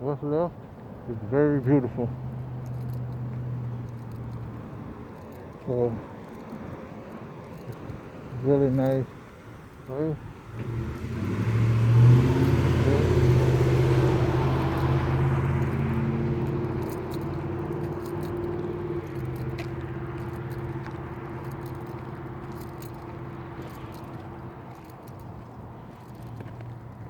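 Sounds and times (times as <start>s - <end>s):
vehicle engine passing by: 1.4s - 6.5s, 9.8s - 27.0s.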